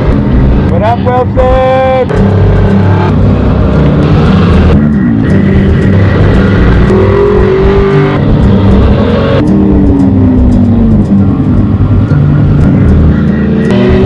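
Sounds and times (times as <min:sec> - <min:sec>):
race vehicle engines running hard: 0:00.0 - 0:14.0.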